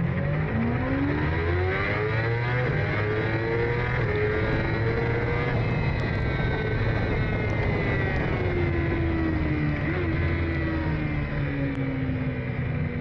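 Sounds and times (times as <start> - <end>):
racing sidecar engines running: 0.0 - 13.0.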